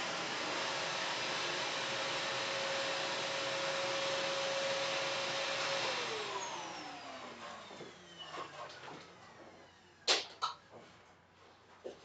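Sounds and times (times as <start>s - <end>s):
vacuum cleaner running: 0.0s - 10.1s.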